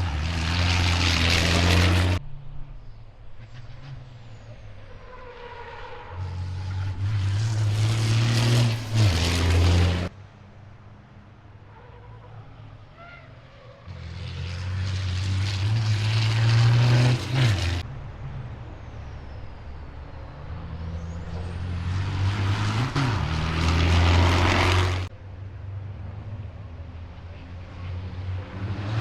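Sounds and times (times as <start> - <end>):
truck engines at speed: 0.0 - 29.0.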